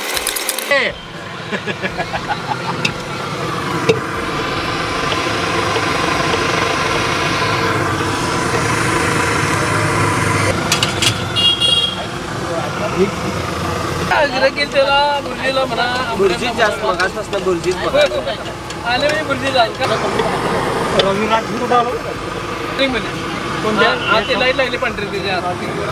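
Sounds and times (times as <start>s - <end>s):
engine-like hum: 0.0s - 25.9s.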